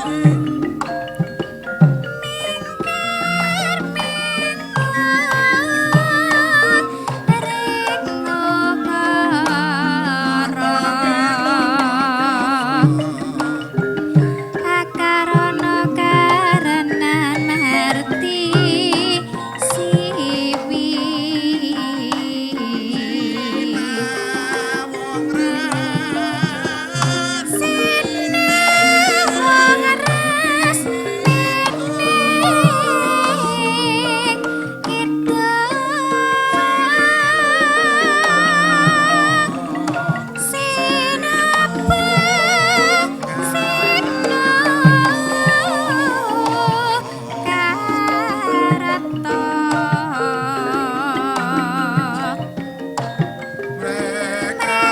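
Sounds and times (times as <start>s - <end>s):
drum strokes: 0.0s - 54.9s
wavering vibrato melody: 0.0s - 54.9s.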